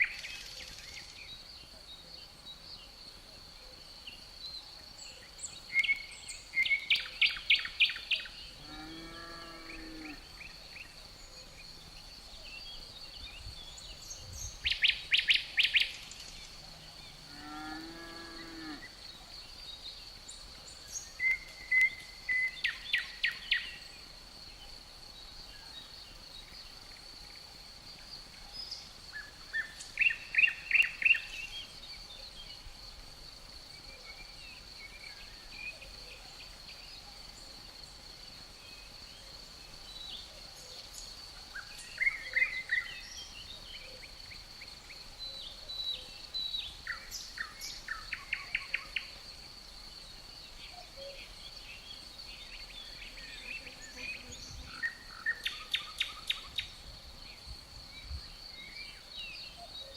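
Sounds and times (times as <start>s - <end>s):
crickets droning: 0.0s - 59.9s.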